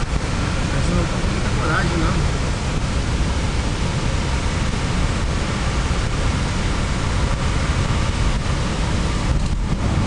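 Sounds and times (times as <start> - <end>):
tyre and road rumble: 0.0 - 10.0.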